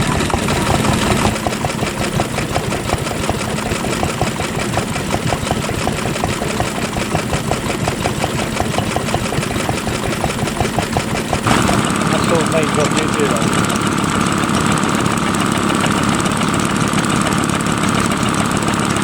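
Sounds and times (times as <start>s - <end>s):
stationary engine knocking: 0.0s - 19.0s.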